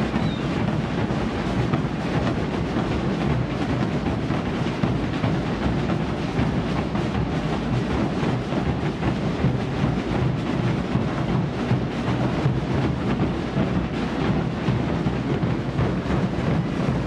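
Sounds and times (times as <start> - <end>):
bass drums beaten together: 0.0 - 17.0.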